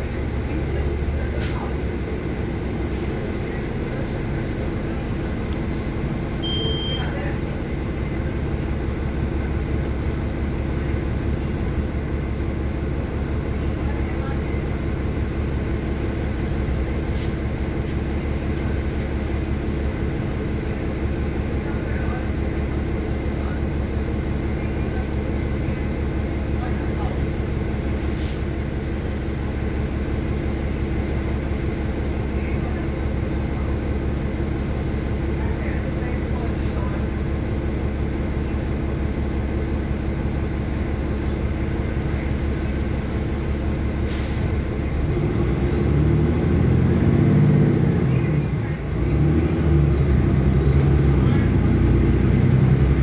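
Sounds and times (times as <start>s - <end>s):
bus engine rumbling: 0.0s - 53.0s
road noise: 0.0s - 53.0s.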